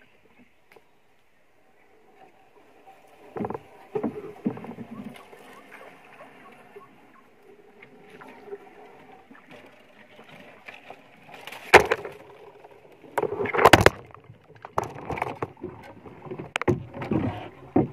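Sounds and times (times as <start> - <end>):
branches scraping and rustling: 2.2 - 6.8, 7.9 - 17.6.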